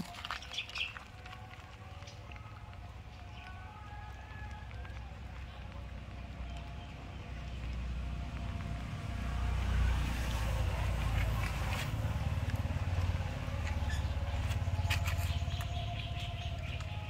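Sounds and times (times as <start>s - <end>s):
motor engine rumbling: 0.0s - 17.0s.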